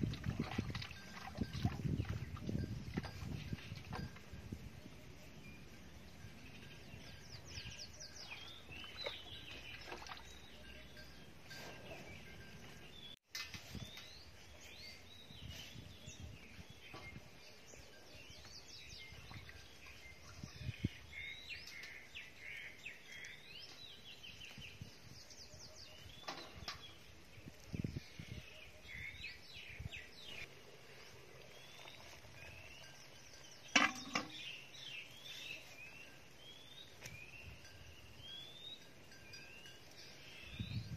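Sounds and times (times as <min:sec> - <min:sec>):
small birds chirping: 0:01.8 - 0:40.9.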